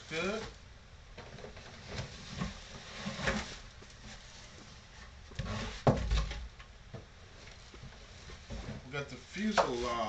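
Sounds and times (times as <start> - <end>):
rustling: 1.2 - 10.0.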